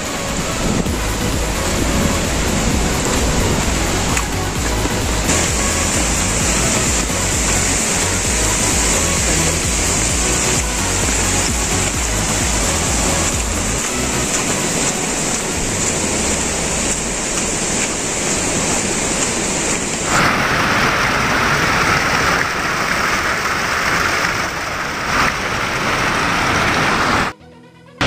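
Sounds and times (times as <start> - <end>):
rushing water and rain: 0.0 - 27.4
small cascade splashing over rocks: 2.0 - 27.3.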